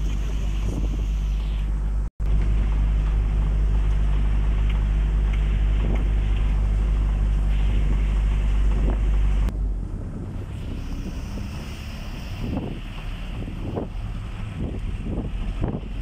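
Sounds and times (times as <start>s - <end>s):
vehicle rumble: 0.0s - 16.0s
wind buffeting microphone: 0.0s - 16.0s.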